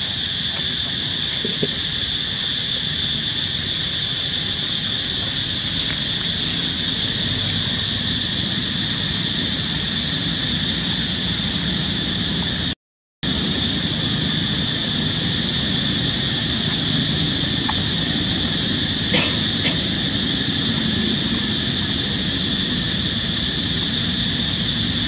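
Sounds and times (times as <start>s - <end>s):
high-pitched hiss: 0.0s - 12.4s, 13.3s - 25.0s.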